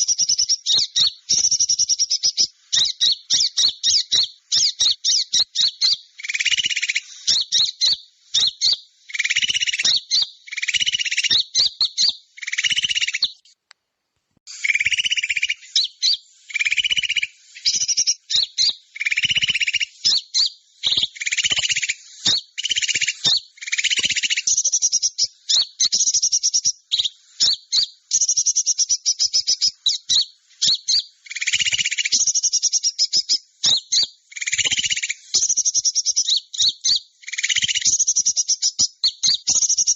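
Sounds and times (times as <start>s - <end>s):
low rapid bird chatter: 0.0s - 13.5s, 14.5s - 39.9s
songbirds chirping trills: 0.0s - 13.6s, 14.5s - 39.9s.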